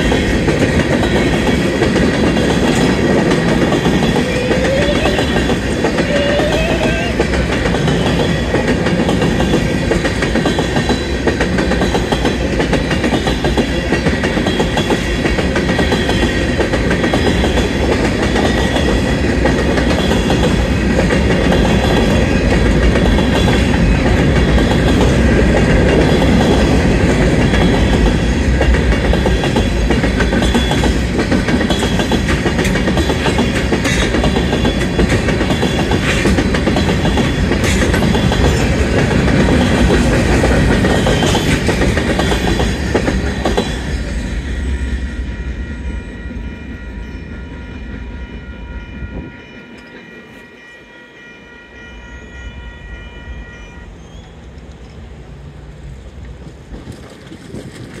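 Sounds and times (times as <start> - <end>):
freight train wheels clacking: 0.0 - 50.5, 54.4 - 58.0
crossing warning bell ringing: 0.0 - 54.3.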